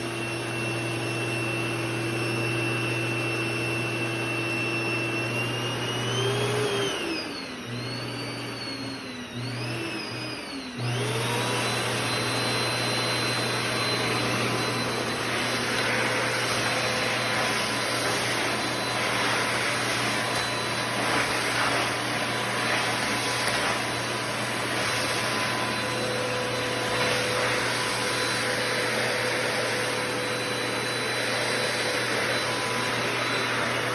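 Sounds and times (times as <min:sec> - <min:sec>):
vacuum cleaner motor running: 0:00.0 - 0:33.9.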